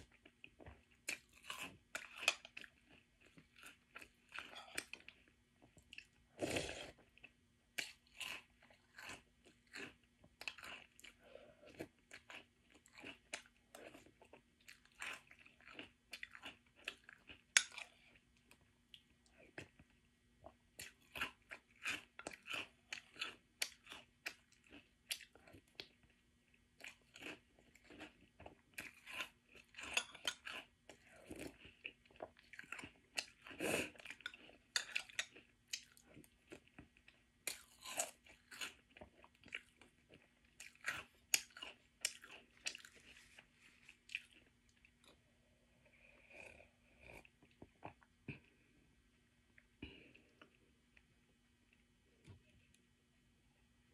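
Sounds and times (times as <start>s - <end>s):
chewing crunchy cereal: 0.0s - 48.6s.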